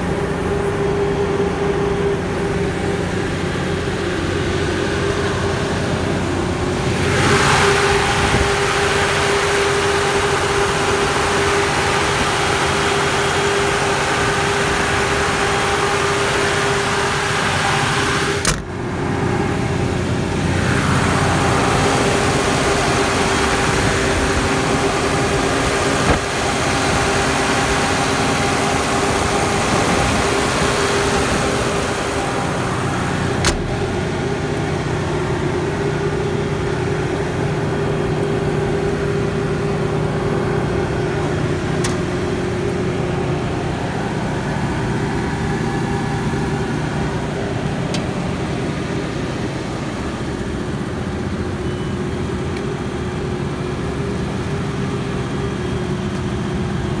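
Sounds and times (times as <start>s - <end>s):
diesel generator running: 0.0s - 57.0s.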